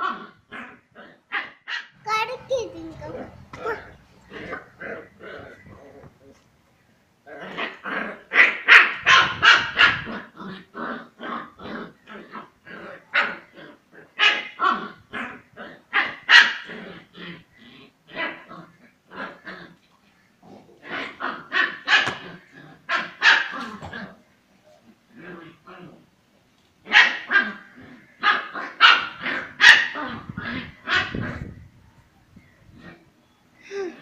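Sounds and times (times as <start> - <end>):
dogs barking and growling: 0.0 - 6.4, 7.2 - 19.9, 20.5 - 26.1, 26.8 - 31.6.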